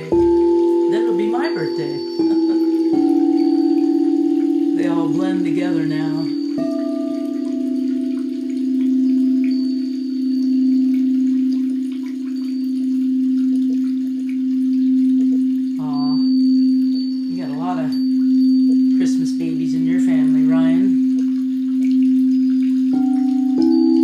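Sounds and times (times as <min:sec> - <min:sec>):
singing bowl low tone: 0:00.0 - 0:24.0.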